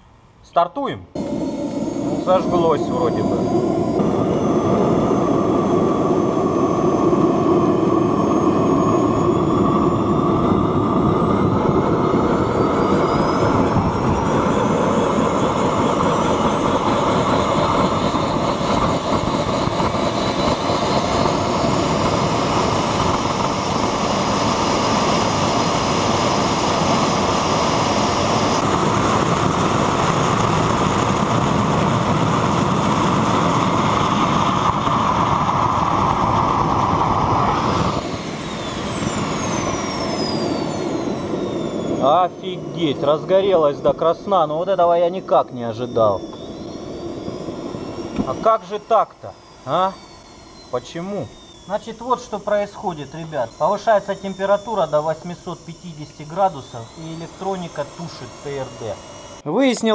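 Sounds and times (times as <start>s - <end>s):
model jet engine whining: 1.1s - 59.9s.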